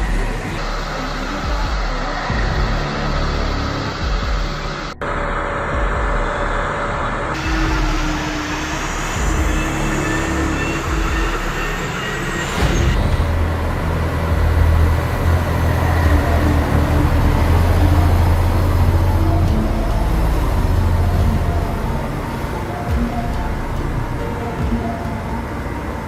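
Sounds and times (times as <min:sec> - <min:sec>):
deep engine drone: 0:00.0 - 0:26.0
heavy engines running: 0:00.0 - 0:26.0.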